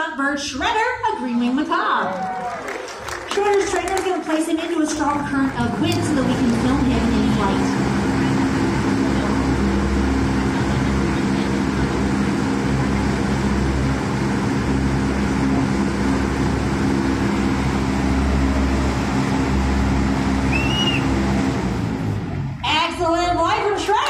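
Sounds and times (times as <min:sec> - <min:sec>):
wind machine fan running: 0:00.0 - 0:24.0.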